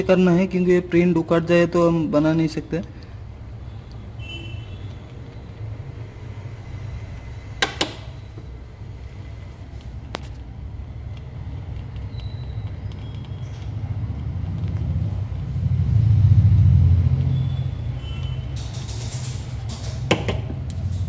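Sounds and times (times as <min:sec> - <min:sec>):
low mechanical hum: 0:02.8 - 0:21.0.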